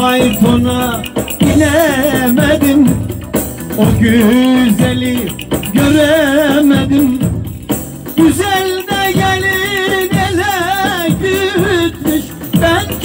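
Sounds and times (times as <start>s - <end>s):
folk dance music: 0.0s - 13.0s
light percussion: 0.0s - 13.0s.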